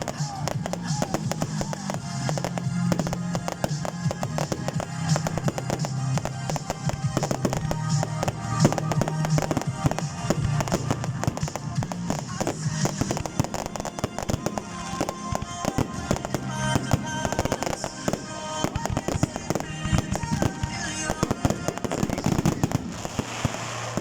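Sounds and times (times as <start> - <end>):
fireworks bangs and crackles: 0.0 - 24.0
music: 0.0 - 24.0.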